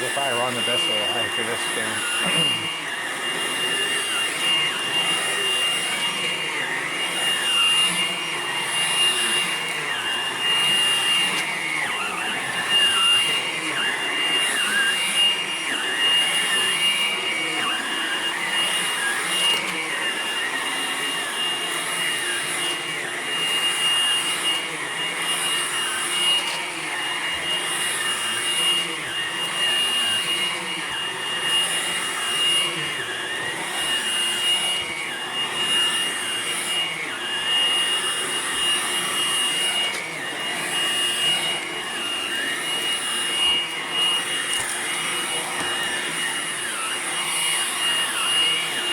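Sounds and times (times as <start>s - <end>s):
stick vacuum running: 0.0s - 48.9s.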